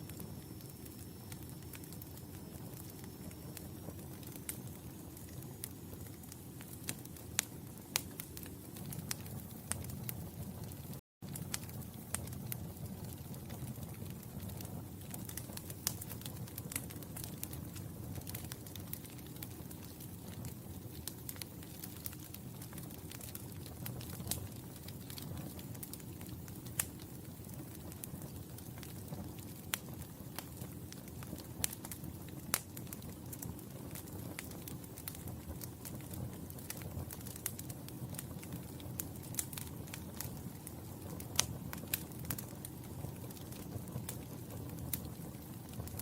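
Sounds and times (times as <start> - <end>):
low rumble of flames: 0.0 - 46.0
wood fire crackling and popping: 0.0 - 46.0.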